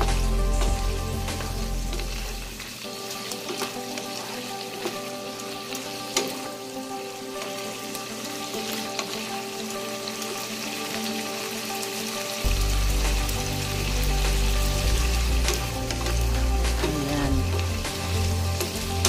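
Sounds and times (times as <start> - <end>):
meat sizzling in a pan: 0.0 - 19.0
soft background music: 0.0 - 19.0.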